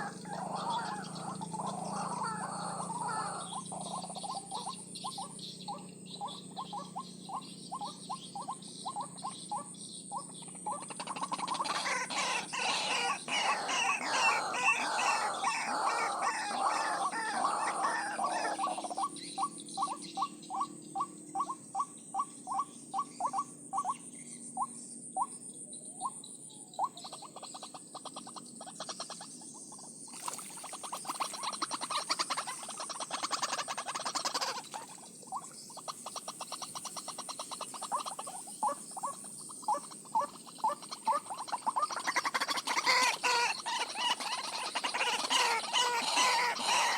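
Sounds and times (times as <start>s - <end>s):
waterhen calls: 0.0s - 23.9s, 30.1s - 46.9s.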